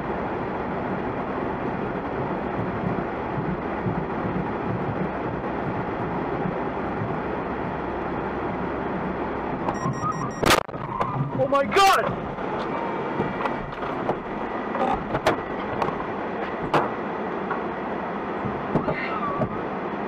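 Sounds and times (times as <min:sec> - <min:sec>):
car road and tyre noise: 0:00.0 - 0:20.0.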